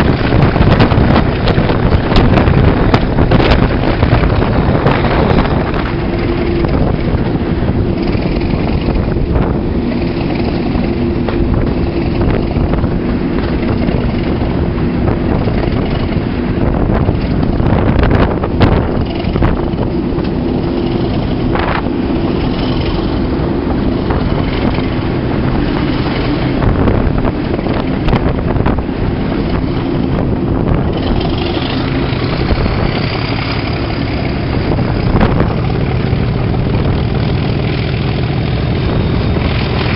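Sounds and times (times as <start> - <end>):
diesel locomotive engine running: 0.0 - 39.9
wind buffeting microphone: 0.0 - 39.9.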